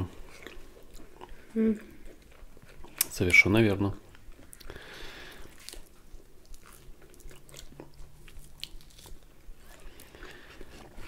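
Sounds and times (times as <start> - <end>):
person chewing food: 0.0 - 3.4, 4.0 - 11.0.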